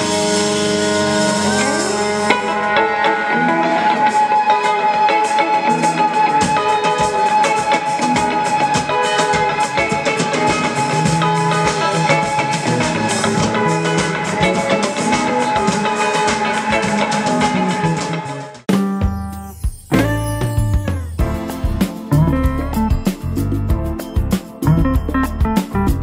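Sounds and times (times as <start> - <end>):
drum kit and guitar music: 0.0 - 26.0.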